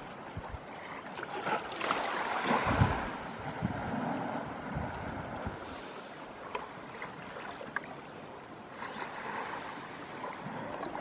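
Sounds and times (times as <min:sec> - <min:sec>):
small waves lapping on sand: 0:00.0 - 0:11.0.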